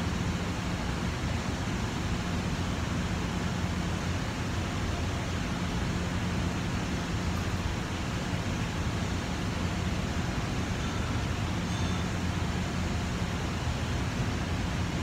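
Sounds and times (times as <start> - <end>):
ventilation air rushing: 0.0 - 15.0.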